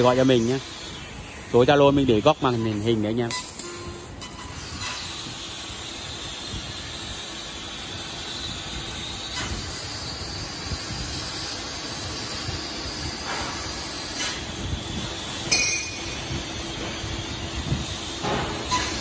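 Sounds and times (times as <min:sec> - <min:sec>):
laser cutter hissing: 0:00.0 - 0:19.0.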